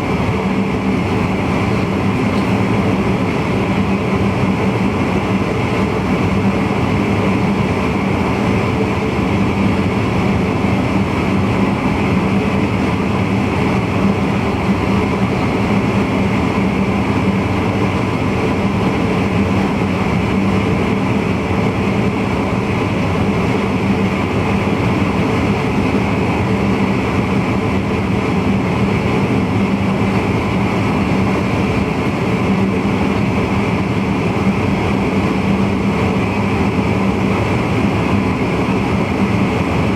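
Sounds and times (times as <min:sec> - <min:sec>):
electric train running rumble: 0:00.0 - 0:39.9.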